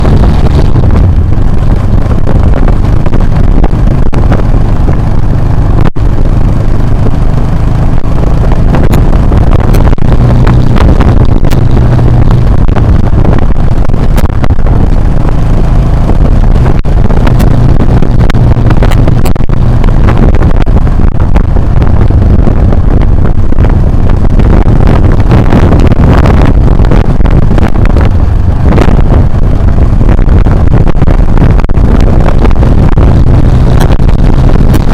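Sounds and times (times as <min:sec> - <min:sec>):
motorcycle engine rumbling: 0:00.0 - 0:34.9
wind buffeting microphone: 0:00.0 - 0:34.9.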